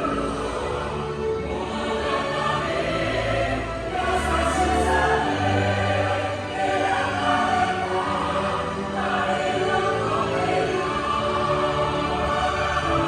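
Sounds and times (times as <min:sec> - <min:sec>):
choir singing held notes: 0:00.0 - 0:13.0
orchestral accompaniment: 0:00.0 - 0:13.0.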